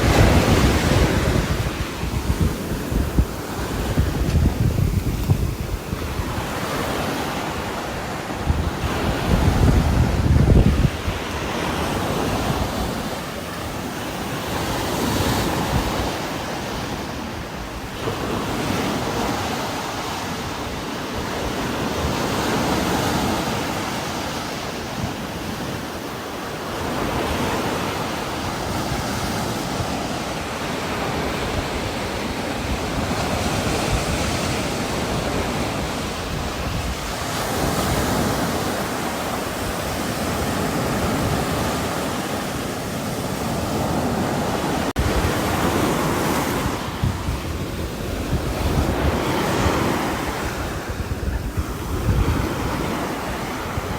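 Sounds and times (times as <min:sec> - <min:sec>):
strong wind in trees: 0:00.0 - 0:53.9.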